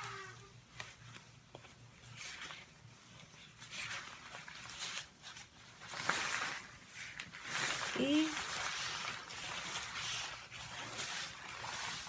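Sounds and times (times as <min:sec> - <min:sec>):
hair and cape rustling: 0:00.0 - 0:12.0.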